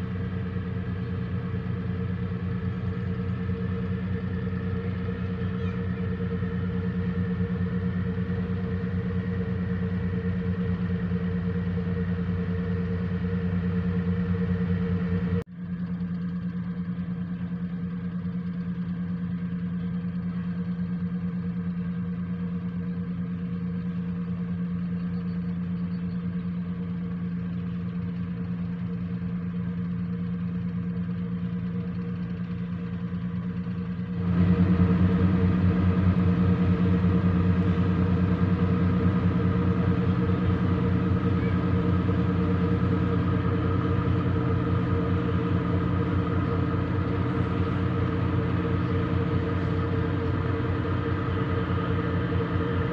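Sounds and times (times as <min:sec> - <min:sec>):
boat diesel engine droning: 0:00.0 - 0:52.9.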